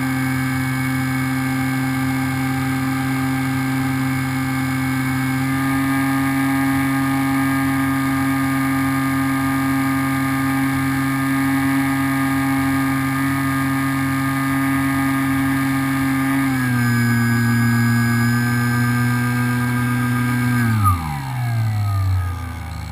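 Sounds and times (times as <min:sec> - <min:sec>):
model plane electric motor: 0:00.0 - 0:22.9.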